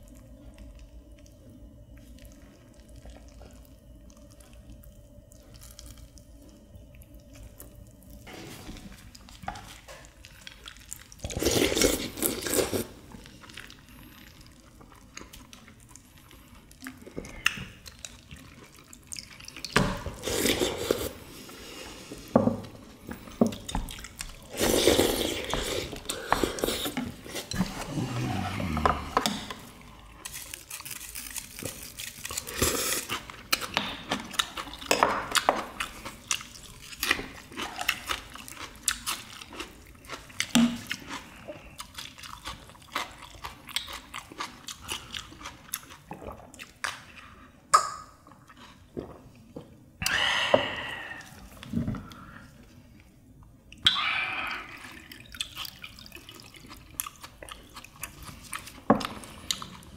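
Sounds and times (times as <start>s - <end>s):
wet eating sounds: 0.0s - 59.9s.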